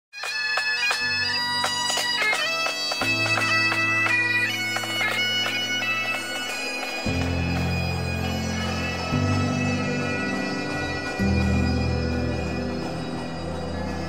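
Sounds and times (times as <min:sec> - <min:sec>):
bagpipe drone: 0:00.2 - 0:14.0
bagpipe melody: 0:00.2 - 0:14.0.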